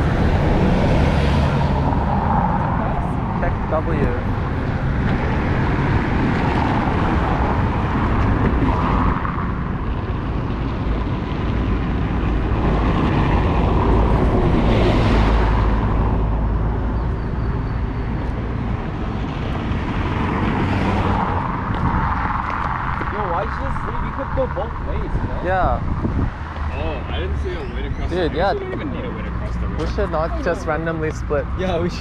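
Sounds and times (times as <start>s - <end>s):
road traffic: 0.0s - 32.0s
vehicles passing close by: 0.0s - 32.0s.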